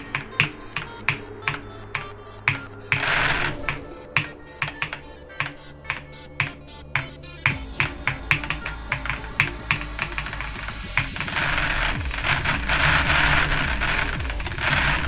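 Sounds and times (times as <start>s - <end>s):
low drone: 0.0s - 15.0s
music track: 0.0s - 15.0s
sharp clicks: 0.0s - 15.0s.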